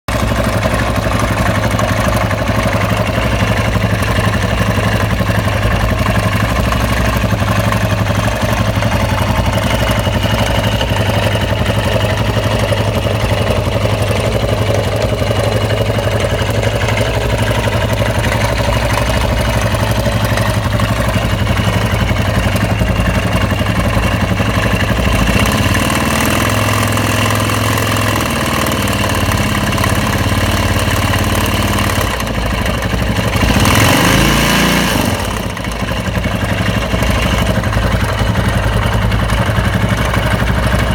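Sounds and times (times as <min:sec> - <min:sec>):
motorcycle engine idling: 0:00.1 - 0:40.9
strange engine noise: 0:00.1 - 0:40.9.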